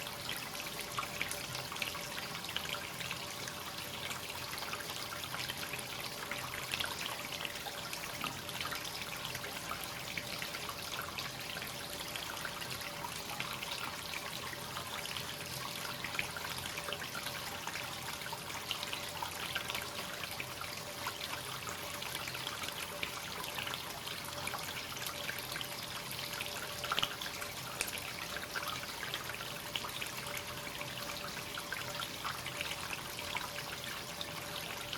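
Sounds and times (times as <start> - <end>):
water trickling into a bath tub: 0.0 - 34.9.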